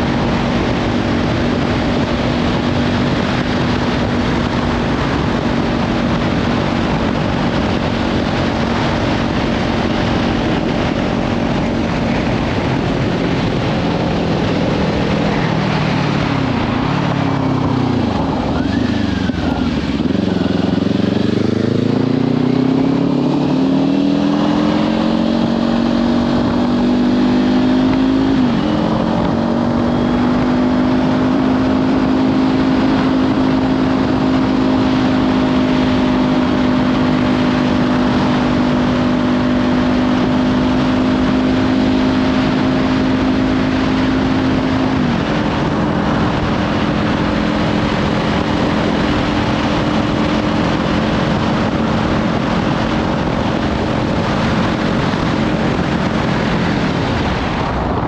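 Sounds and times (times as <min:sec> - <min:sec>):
motorcycle engine at road speed: 0:00.0 - 0:58.0
wind noise on microphone: 0:00.0 - 0:58.0.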